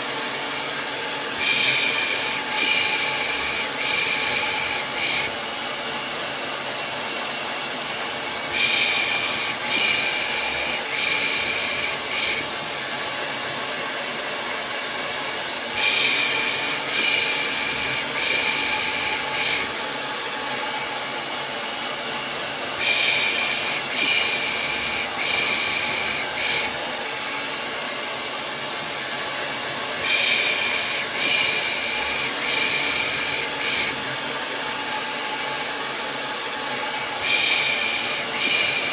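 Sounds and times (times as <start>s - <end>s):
hair dryer whooshing hum: 0.0s - 38.9s.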